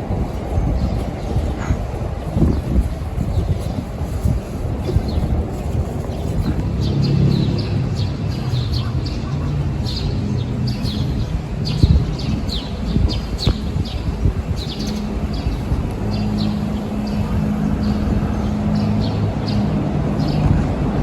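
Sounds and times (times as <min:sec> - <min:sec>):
city traffic rumble: 0:00.0 - 0:21.0
small birds chirping: 0:00.3 - 0:20.6.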